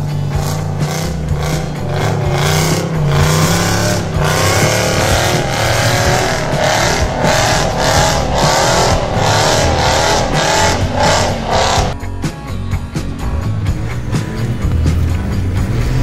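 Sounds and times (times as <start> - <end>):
off-road engine revving unevenly: 0.0 - 12.0, 13.0 - 16.0.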